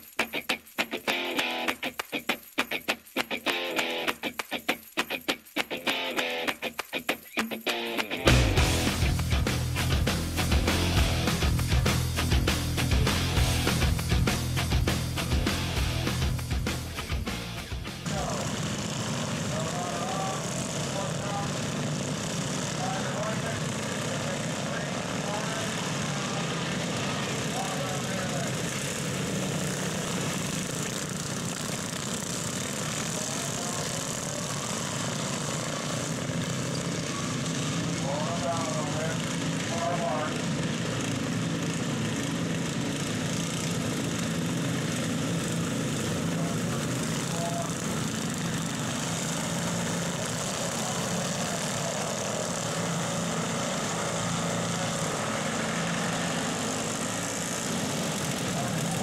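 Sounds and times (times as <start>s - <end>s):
small engines droning: 0.0s - 59.0s.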